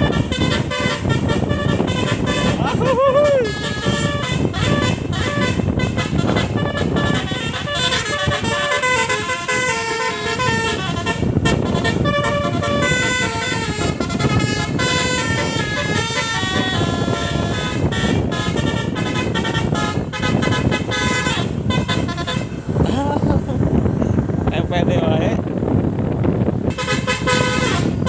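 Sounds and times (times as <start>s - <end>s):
musical air horn melody: 0.0s - 22.8s, 26.7s - 28.0s.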